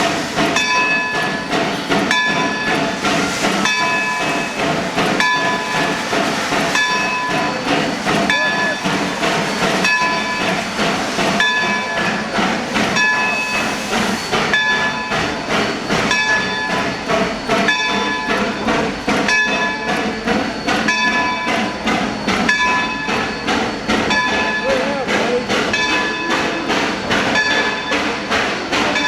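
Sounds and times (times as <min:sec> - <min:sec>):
steam locomotive bell ringing: 0:00.0 - 0:29.0
steam locomotive working: 0:00.0 - 0:29.0.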